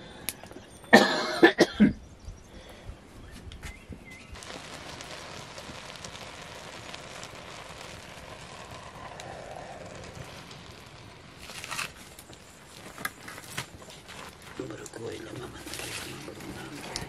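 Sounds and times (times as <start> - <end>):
wood fire hissing and crackling: 0.0 - 0.7, 2.4 - 17.0.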